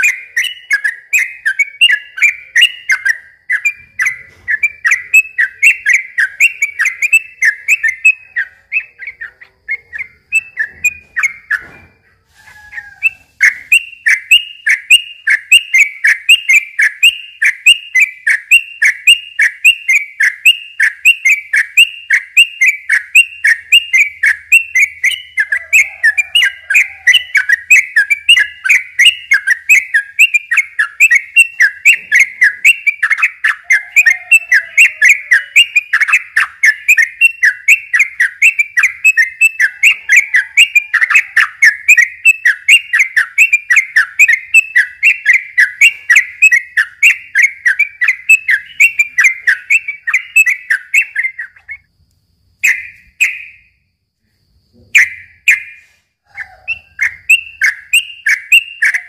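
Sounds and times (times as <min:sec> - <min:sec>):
bird singing sharp repeated notes: 0:00.0 - 0:12.0, 0:12.8 - 0:53.9, 0:54.7 - 0:59.0.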